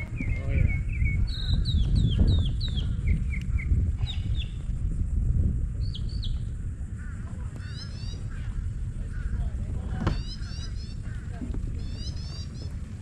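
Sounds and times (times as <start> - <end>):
birds whistling and chirping: 0.0 - 4.7, 5.7 - 13.0
steady low rumble: 0.0 - 13.0.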